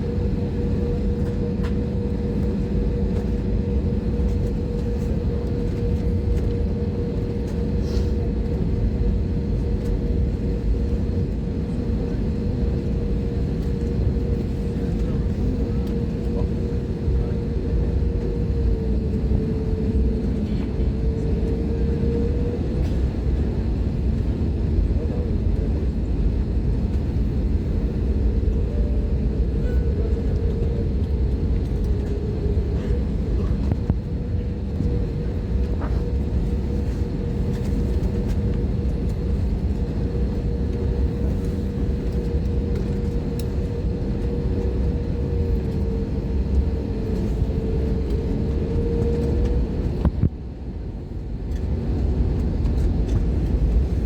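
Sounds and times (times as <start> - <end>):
airliner cabin rumble and hum: 0.0 - 54.0.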